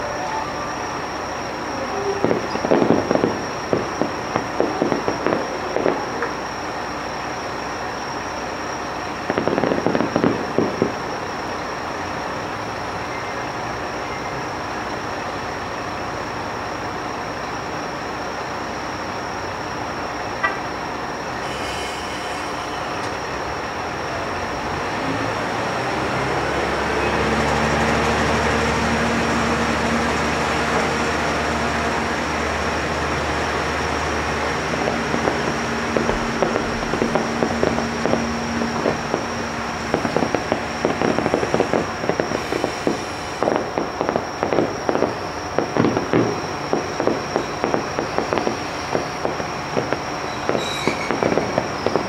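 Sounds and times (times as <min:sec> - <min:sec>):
fireworks crackling: 0:00.0 - 0:14.0, 0:18.1 - 0:26.6, 0:27.7 - 0:52.0
diesel railcar engine: 0:00.0 - 0:52.0.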